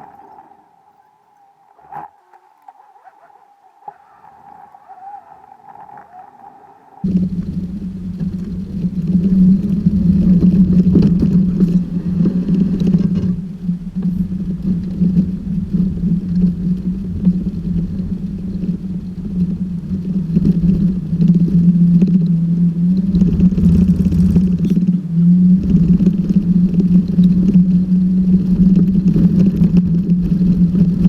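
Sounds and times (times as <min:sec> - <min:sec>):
low uneven rumble: 0:00.0 - 0:31.0
pickup truck engine droning: 0:03.8 - 0:31.0.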